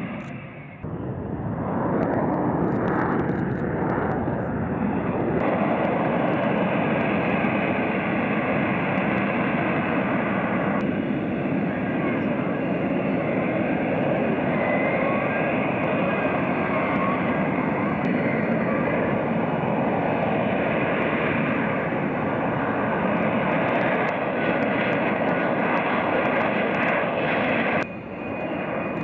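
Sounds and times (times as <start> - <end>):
jet engine roaring: 0.0 - 29.0.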